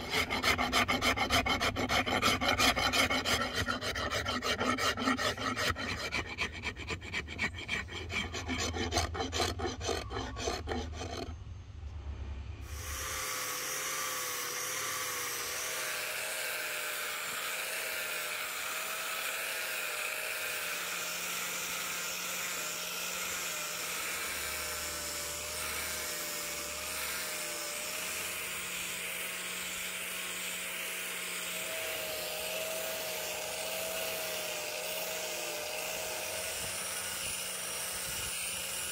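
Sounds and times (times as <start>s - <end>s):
angle grinder sanding: 0.0s - 11.4s, 12.7s - 38.9s
hand file scraping wood: 0.0s - 11.4s, 12.8s - 38.9s.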